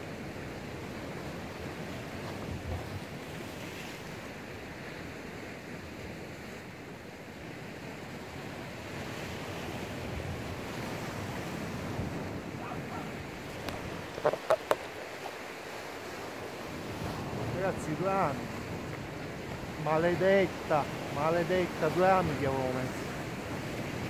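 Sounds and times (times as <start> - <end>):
wind on microphone: 0.0 - 4.8, 7.5 - 24.0
sea surf washing: 0.0 - 24.0.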